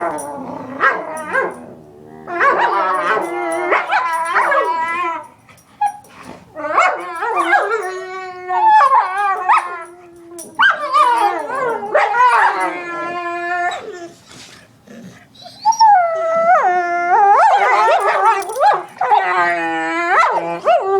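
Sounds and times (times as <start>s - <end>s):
dog howling and yipping: 0.0s - 14.2s, 15.3s - 20.9s.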